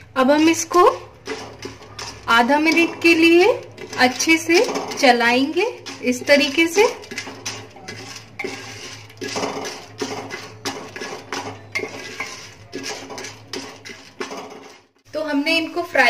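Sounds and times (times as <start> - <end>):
metal spoon scraping popcorn kernels: 0.2 - 15.1.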